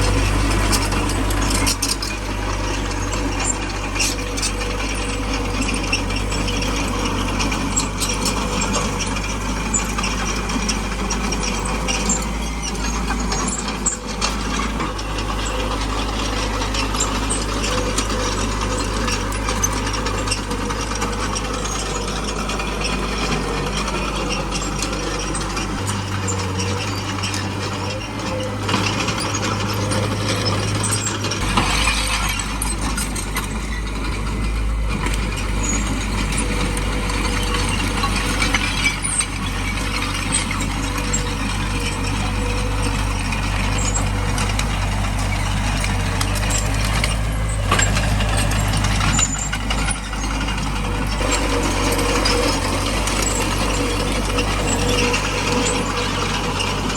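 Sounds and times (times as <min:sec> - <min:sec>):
bulldozer diesel engine under load: 0:00.0 - 0:56.9
steel tracks clattering: 0:00.0 - 0:56.9.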